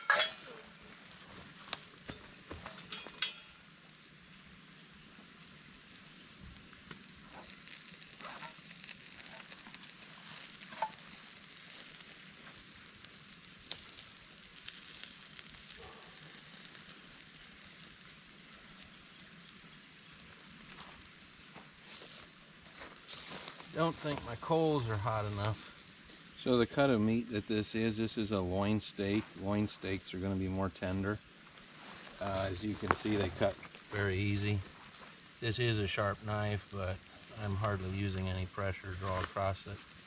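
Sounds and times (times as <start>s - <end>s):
coals popping and crackling: 0.0s - 40.0s
steak sizzling on coals: 0.0s - 40.0s.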